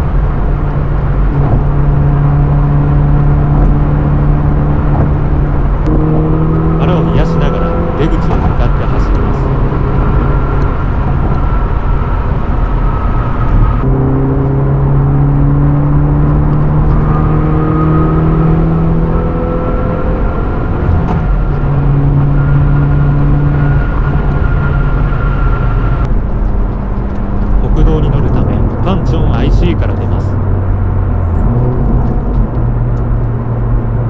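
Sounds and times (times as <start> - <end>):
car engine droning: 0.0 - 34.0
road and tyre noise: 0.0 - 34.0.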